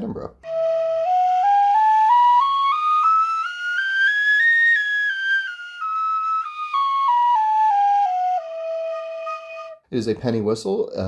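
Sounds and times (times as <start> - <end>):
penny whistle playing a scale: 0.4 - 9.8.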